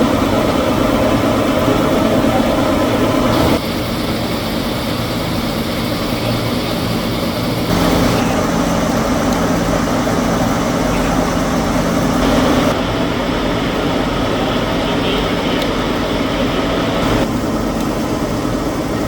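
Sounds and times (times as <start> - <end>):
factory machinery hum and clatter: 0.0 - 19.0.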